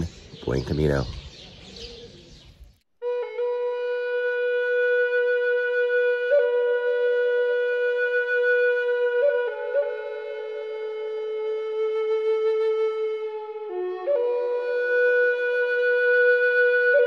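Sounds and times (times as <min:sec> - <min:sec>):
flute-like long notes: 0:03.0 - 0:17.0.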